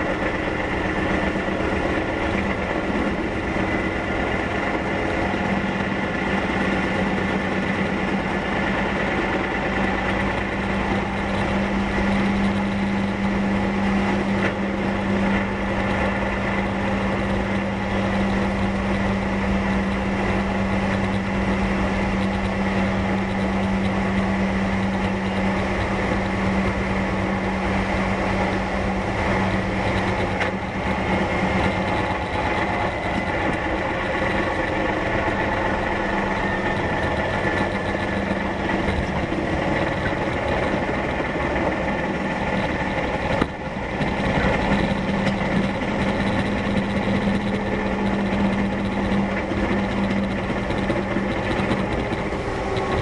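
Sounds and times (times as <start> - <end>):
train interior hum: 0.0 - 53.0.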